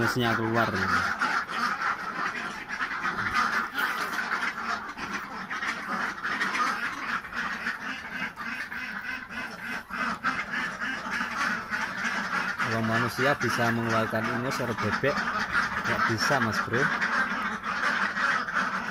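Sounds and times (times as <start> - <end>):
ducks quacking: 0.0 - 18.9.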